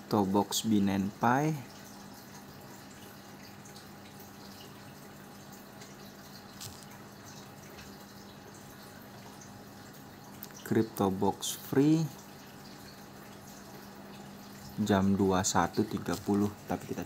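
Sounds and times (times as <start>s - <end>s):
low background hiss: 0.0s - 17.0s.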